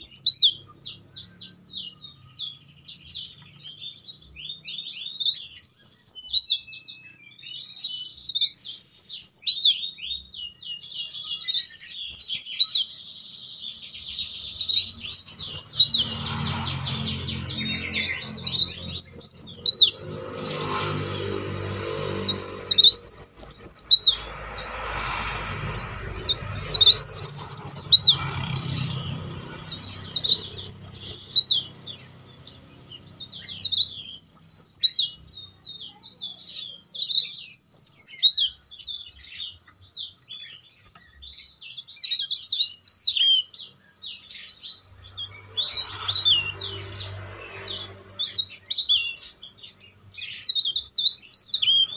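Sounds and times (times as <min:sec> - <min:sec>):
warbler chirping song: 0:00.0 - 0:51.9.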